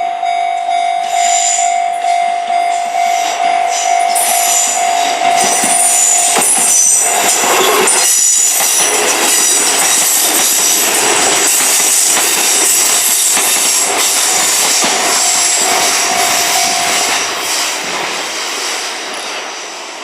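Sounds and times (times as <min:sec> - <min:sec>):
train running noise: 0:00.0 - 0:20.0
high wheel squeal: 0:02.8 - 0:20.0
wheels clacking over rail joints: 0:03.4 - 0:19.6.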